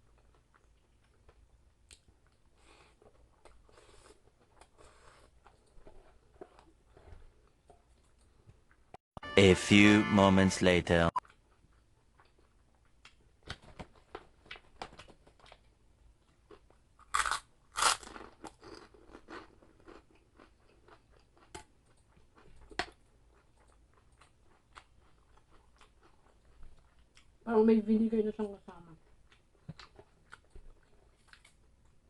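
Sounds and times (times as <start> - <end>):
crunching and chewing cracklings: 0.0 - 8.9, 11.2 - 27.4, 29.0 - 32.0.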